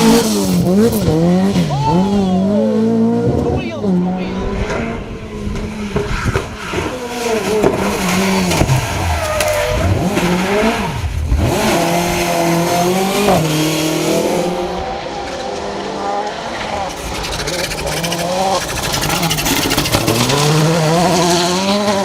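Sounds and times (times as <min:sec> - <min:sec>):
car engine revving hard: 0:00.0 - 0:22.0.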